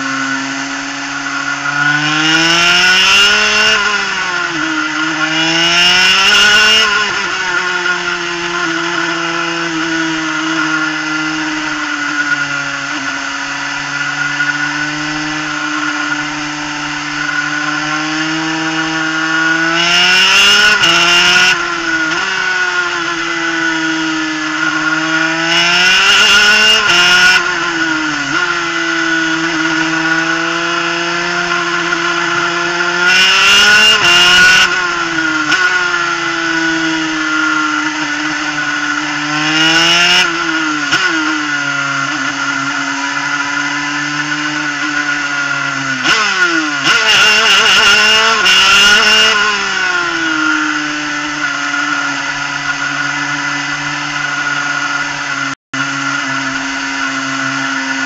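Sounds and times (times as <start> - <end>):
two-stroke kart engine revving: 0.0 - 58.0.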